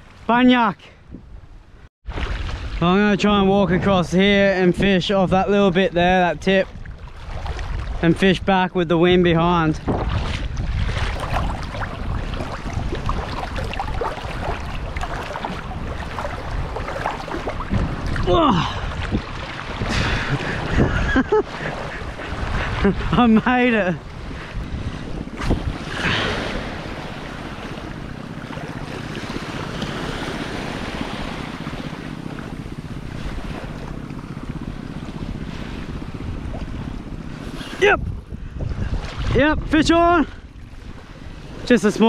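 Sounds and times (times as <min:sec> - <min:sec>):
wind buffeting microphone: 0:01.0 - 0:42.0
small waves breaking: 0:02.0 - 0:03.0, 0:06.5 - 0:08.3, 0:09.7 - 0:42.0
steady low rumble: 0:03.1 - 0:39.7
seawater sloshing and gurgling: 0:05.4 - 0:08.5, 0:09.1 - 0:42.0.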